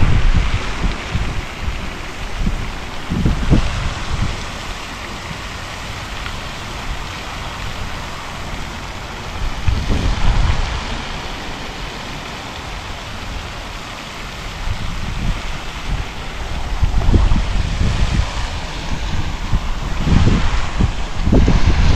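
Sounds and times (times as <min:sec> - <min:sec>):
steady outdoor hiss: 0:00.0 - 0:21.9
wind rumbling on microphone: 0:00.0 - 0:21.9.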